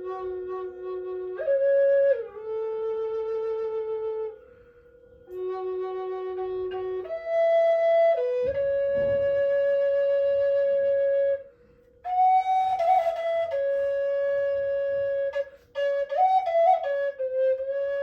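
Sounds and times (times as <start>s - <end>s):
flute playing long notes: 0.0s - 18.0s.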